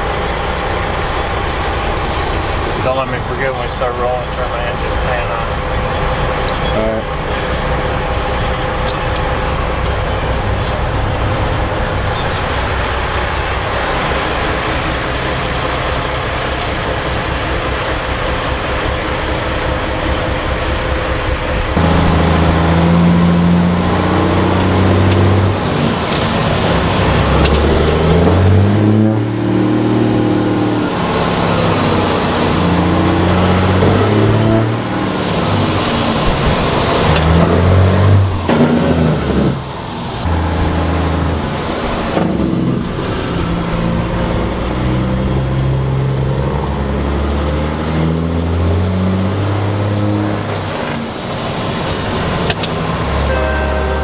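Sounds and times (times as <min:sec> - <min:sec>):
truck diesel engine: 0:00.0 - 0:54.0.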